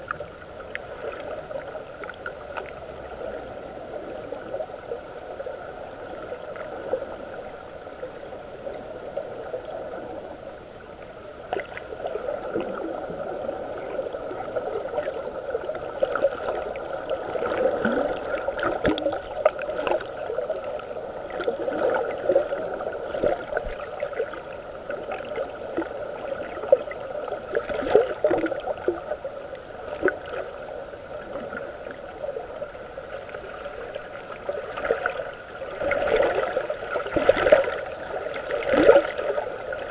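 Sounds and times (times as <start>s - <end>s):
muffled underwater water wash: 0.0s - 39.9s
underwater clicks and crackles: 0.0s - 39.9s.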